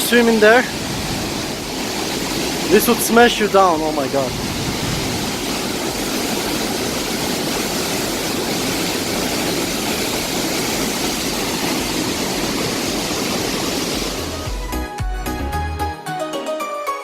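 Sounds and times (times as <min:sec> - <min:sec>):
powerful waterfall rushing: 0:00.0 - 0:14.6.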